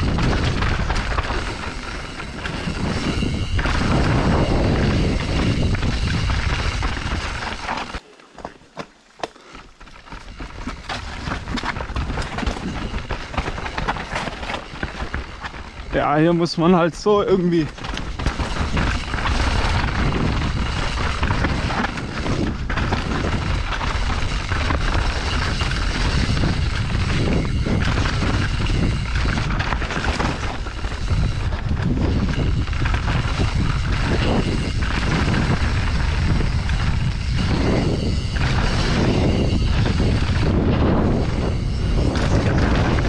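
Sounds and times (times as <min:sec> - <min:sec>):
wind rushing over microphone: 0:00.0 - 0:08.0, 0:10.2 - 0:43.0
bike knocking and rattling: 0:00.0 - 0:43.0
tyres crunching over dirt and stones: 0:00.0 - 0:43.0.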